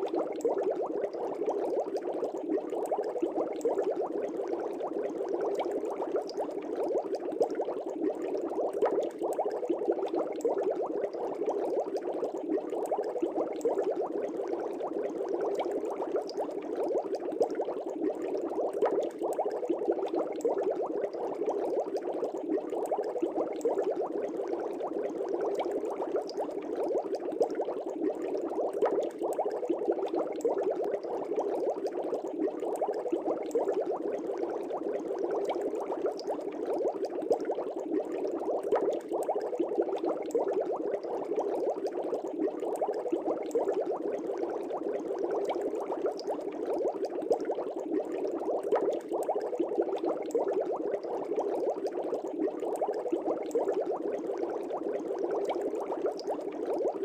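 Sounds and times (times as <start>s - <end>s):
aquarium air bubbles gurgling: 0.0s - 57.0s.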